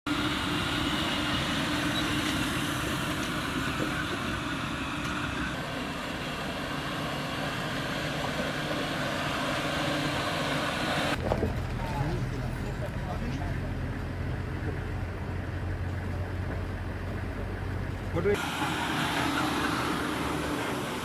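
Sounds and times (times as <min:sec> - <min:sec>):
road noise: 0:00.1 - 0:21.0
truck engine: 0:00.1 - 0:21.0.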